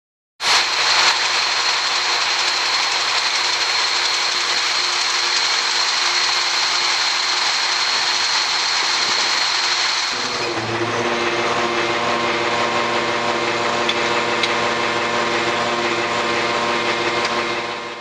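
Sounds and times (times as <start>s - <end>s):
machine running with high whine: 0.4s - 18.0s.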